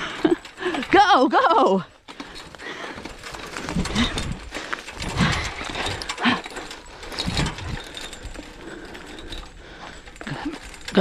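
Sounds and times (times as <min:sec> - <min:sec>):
steady rattle: 0:00.0 - 0:11.0.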